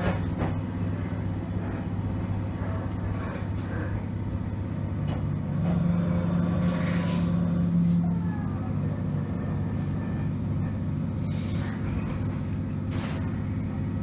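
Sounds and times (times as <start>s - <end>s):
electric train hum and rumble: 0.0s - 14.0s.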